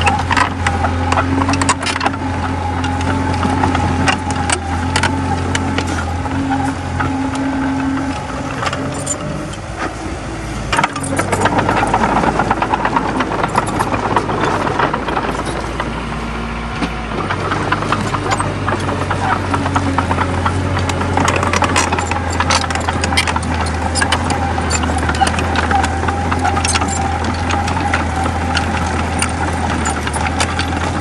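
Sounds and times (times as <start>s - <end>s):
bulldozer diesel engine running: 0.0s - 31.0s
metallic clanking of tracks: 0.0s - 31.0s.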